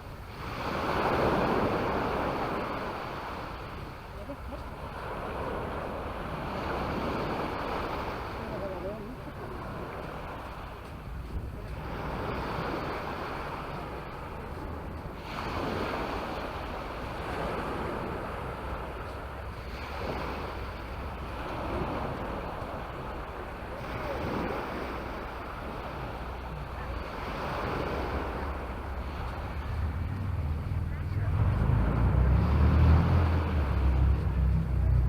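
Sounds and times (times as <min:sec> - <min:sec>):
sea waves breaking on a beach: 0:00.0 - 0:35.0
wind rumbling on microphone: 0:00.0 - 0:35.0.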